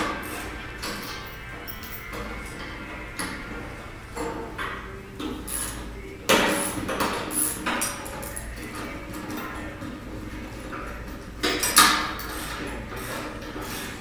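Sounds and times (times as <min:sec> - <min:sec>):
metal tools clanking: 0:00.0 - 0:14.0.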